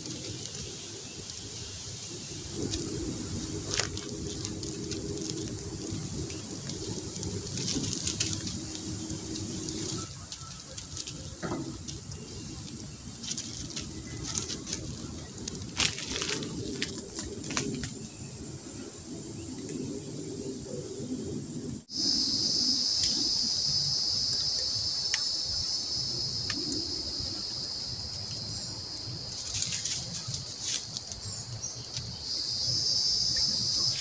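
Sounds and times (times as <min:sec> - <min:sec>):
sharp snaps of burning twigs: 0:00.0 - 0:18.1, 0:21.9 - 0:34.0
campfire crackling: 0:00.0 - 0:18.2, 0:21.8 - 0:34.0.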